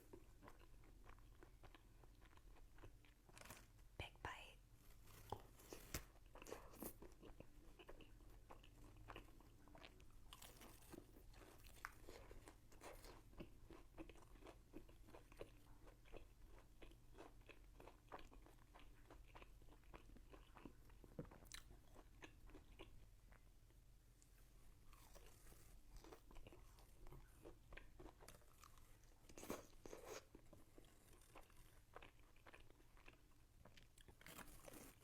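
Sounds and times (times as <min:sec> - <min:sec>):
person chewing crunchy food: 0:00.0 - 0:03.8, 0:05.2 - 0:23.8, 0:24.7 - 0:35.0.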